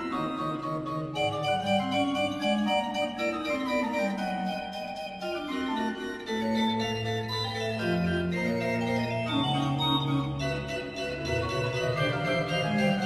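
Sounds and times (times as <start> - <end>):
pipe organ fugue: 0.0 - 13.0.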